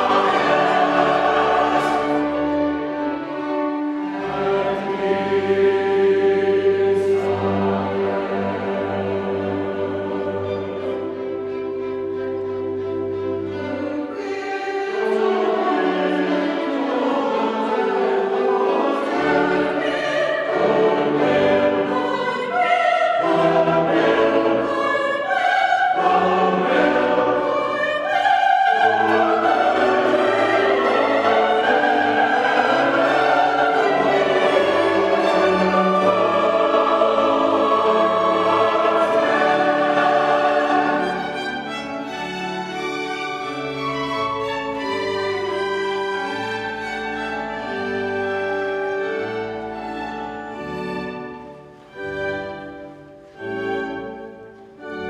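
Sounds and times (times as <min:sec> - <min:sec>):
choir singing: 0:00.0 - 0:55.0
orchestra playing: 0:00.0 - 0:55.0.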